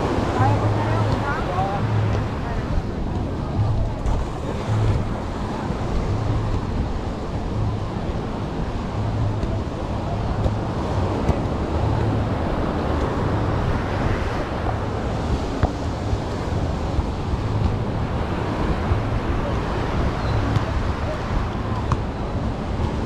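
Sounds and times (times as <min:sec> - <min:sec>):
surf washing: 0:00.0 - 0:23.0
wind rumbling on microphone: 0:00.0 - 0:23.0.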